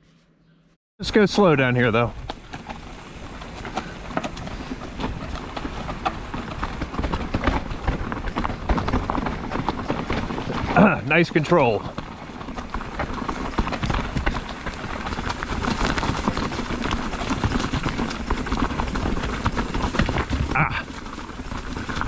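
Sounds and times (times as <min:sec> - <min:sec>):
mountain bike rattling over rocks: 0:01.4 - 0:22.0.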